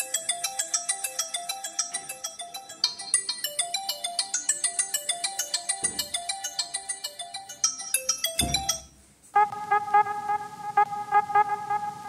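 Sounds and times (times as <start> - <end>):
phone ringtone melody: 0.0 - 12.0.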